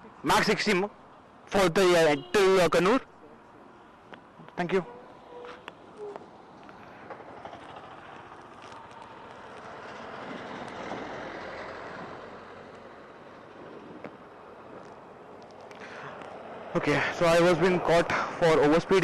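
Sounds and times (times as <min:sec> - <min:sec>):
road vehicle passing by: 0:03.4 - 0:19.0.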